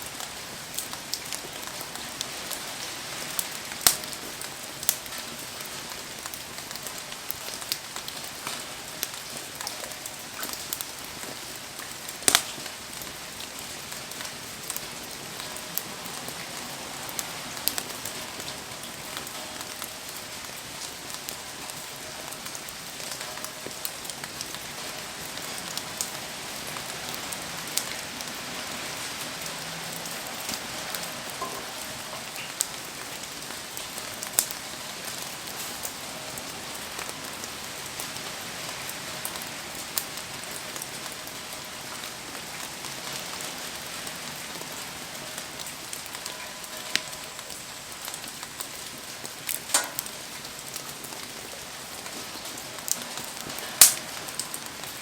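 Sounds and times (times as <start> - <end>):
steady rain: 0.0 - 55.0
campfire crackling and popping: 0.1 - 28.4, 29.9 - 55.0.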